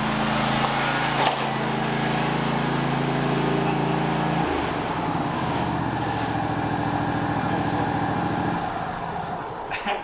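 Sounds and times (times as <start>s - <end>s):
riding mower engine running: 0.0s - 9.7s.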